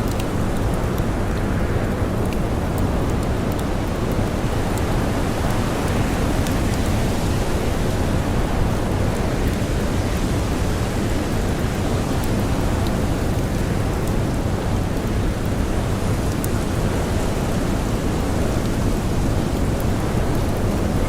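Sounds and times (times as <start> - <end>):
campfire crackles: 0.0 - 21.0.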